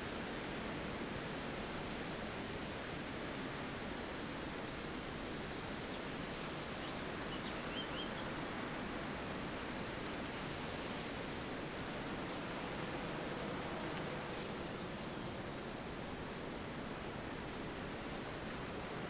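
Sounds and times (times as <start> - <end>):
wind rushing through trees: 0.0 - 19.0.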